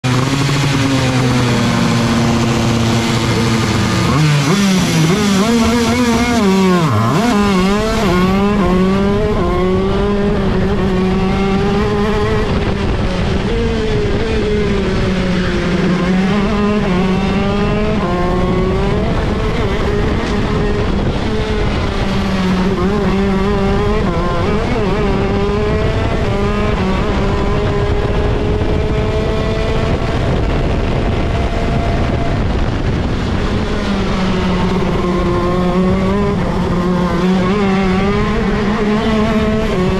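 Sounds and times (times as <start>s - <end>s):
kart two-stroke engine revving: 0.0s - 39.9s
other kart engines: 0.0s - 39.9s.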